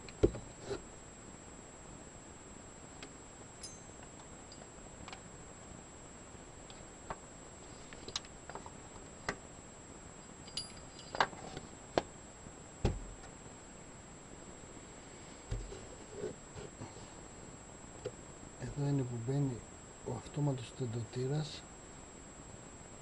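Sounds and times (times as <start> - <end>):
faint high-pitched whine: 0.0 - 23.0.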